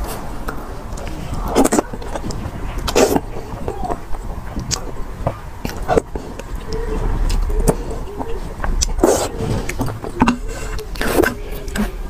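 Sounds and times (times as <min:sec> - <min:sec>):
slurping and chewing noodles: 0:00.0 - 0:12.0
wet mouth clicks: 0:00.4 - 0:08.0, 0:08.6 - 0:11.9.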